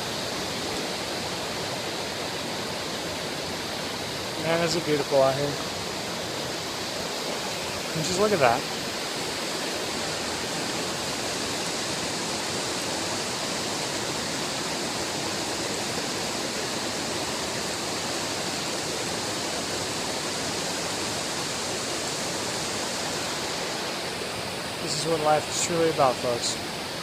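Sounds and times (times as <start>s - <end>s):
waterfall rushing water: 0.0s - 27.0s.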